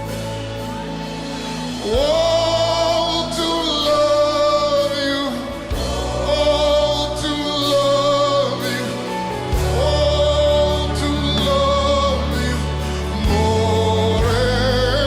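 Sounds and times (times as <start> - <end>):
sustained chords: 0.0 - 15.0
voices holding long notes: 0.0 - 15.0.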